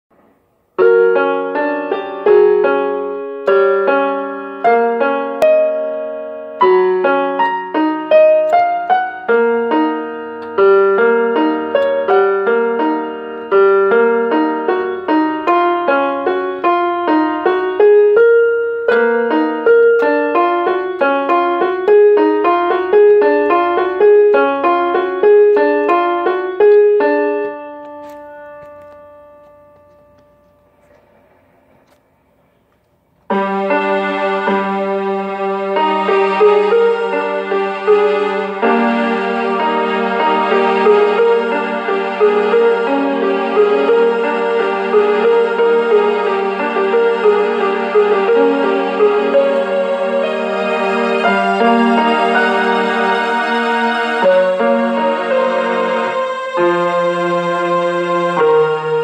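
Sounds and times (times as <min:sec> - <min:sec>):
solo piano piece: 0:00.1 - 0:59.0.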